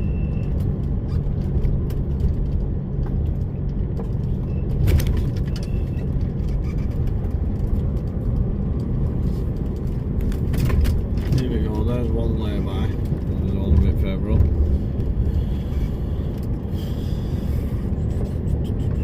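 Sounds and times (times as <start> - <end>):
truck diesel engine driving: 0.0 - 19.0.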